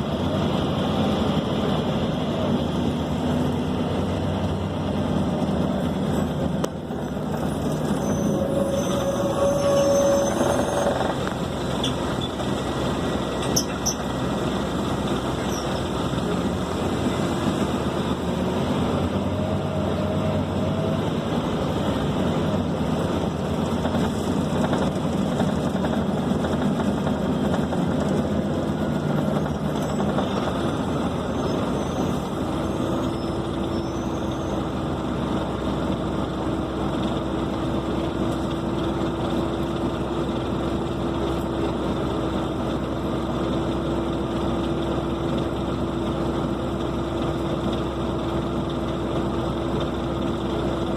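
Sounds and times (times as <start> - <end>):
bus engine and road noise: 0.0 - 50.9.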